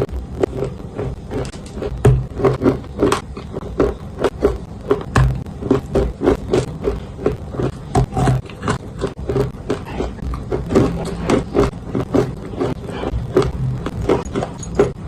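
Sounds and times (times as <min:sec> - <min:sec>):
crunching of clay being chewed: 0:00.0 - 0:15.0.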